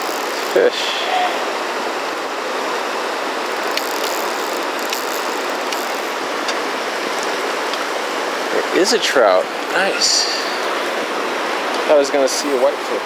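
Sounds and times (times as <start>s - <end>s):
rushing river rapids: 0.0s - 13.0s.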